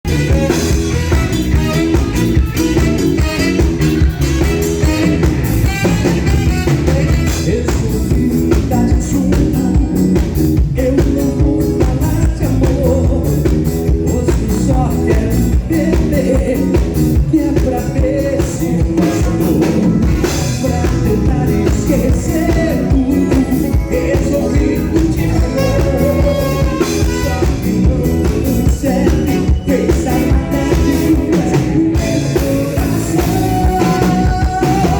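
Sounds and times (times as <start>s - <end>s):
band playing a song: 0.0s - 34.9s
person singing: 0.1s - 34.9s.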